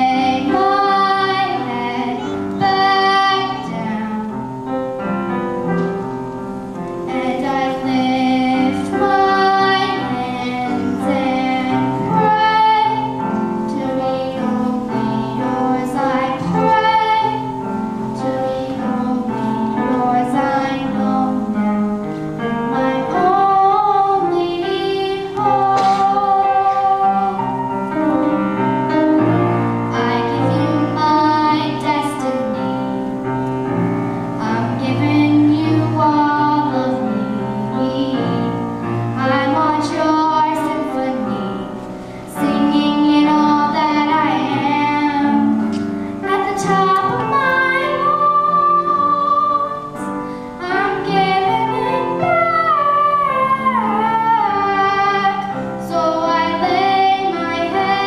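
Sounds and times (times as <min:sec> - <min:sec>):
girl singing into microphone: 0:00.0 - 0:58.0
instrumental accompaniment: 0:00.0 - 0:58.0.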